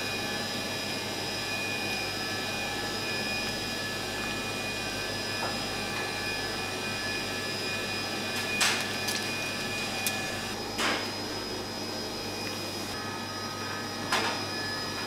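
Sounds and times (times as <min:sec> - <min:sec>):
kitchen equipment whirring: 0:00.0 - 0:15.0.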